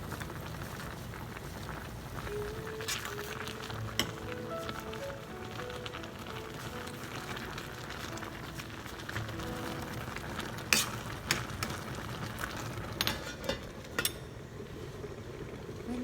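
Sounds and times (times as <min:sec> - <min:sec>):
faint background music: 0:00.0 - 0:13.0
leaves sizzling in a pan: 0:00.0 - 0:16.0.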